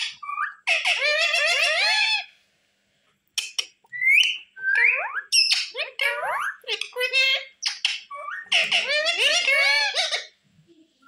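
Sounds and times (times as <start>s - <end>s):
parakeet chattering and whistling: 0.0s - 2.3s, 3.4s - 10.4s.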